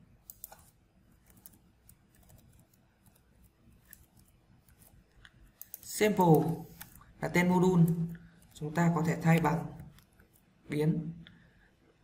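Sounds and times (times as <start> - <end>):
computer keyboard and mouse clicks: 0.2 - 10.4.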